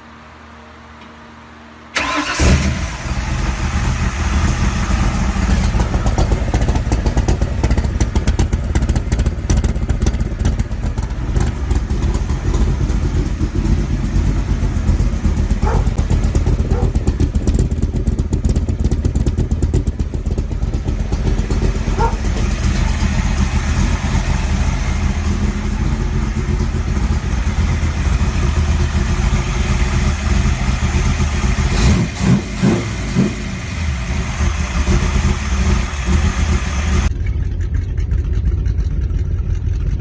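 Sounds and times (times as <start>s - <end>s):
car engine idling unevenly: 0.7s - 40.0s.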